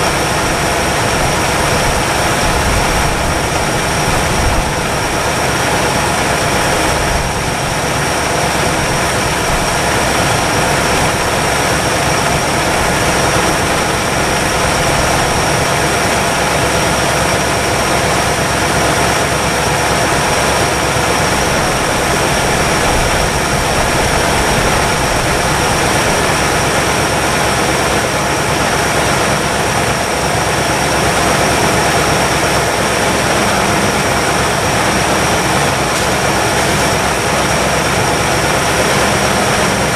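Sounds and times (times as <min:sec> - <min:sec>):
car engine fast idle: 0:00.0 - 0:39.9.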